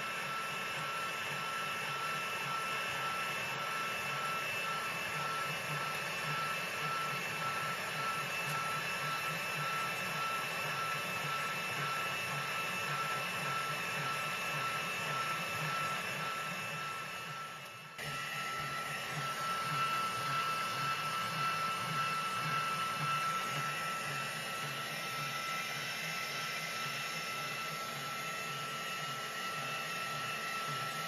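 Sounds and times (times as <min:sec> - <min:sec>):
boring machine whining: 0:00.0 - 0:31.0.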